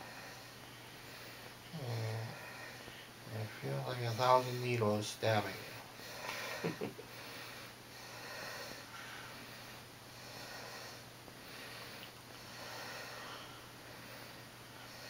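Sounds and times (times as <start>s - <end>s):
person breathing slowly: 0.0s - 4.7s, 5.5s - 15.0s
low steady hum: 0.0s - 15.0s.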